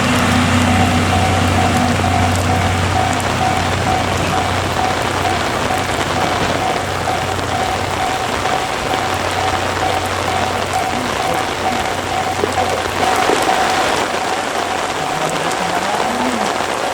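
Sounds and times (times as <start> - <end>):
high-pitched tone: 0.0 - 16.1
heavy rain pouring: 0.0 - 16.9.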